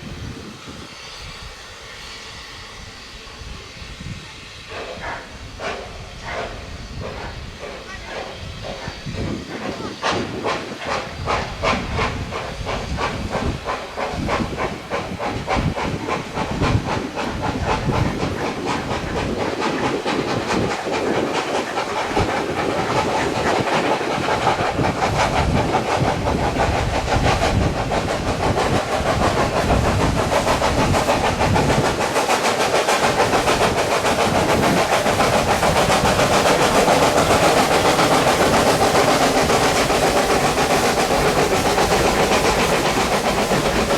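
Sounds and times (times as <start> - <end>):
steam hissing: 0.0 - 43.9
steam locomotive exhaust beats: 0.0 - 43.9.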